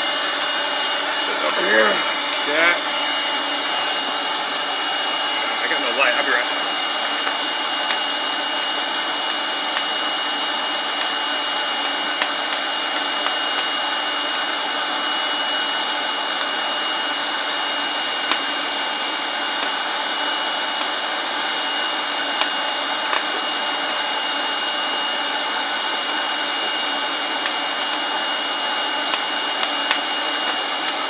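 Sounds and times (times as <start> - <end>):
burning logs popping: 0.0 - 31.0
thin steady whine: 0.0 - 31.0.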